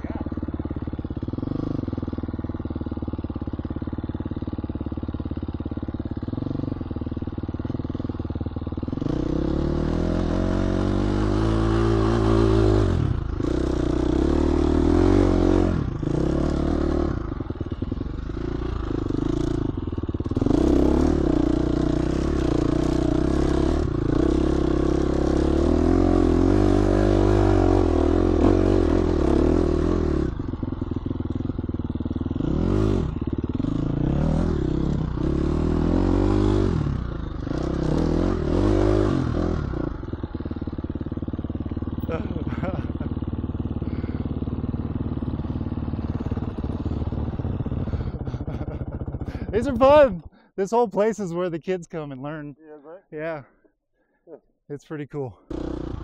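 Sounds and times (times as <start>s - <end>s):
dirt bike engine revving: 0.0s - 52.4s, 55.5s - 56.0s.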